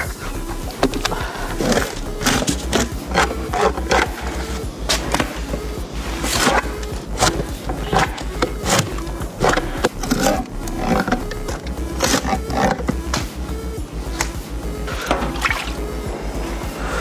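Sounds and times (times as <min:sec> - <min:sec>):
music with bass beat: 0:00.0 - 0:17.0.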